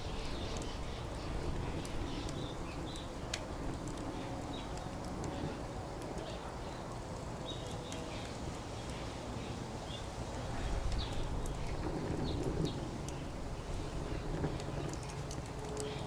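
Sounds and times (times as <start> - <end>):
low background rumble: 0.0 - 9.0, 10.3 - 16.0
wood fire crackling and popping: 0.0 - 16.0.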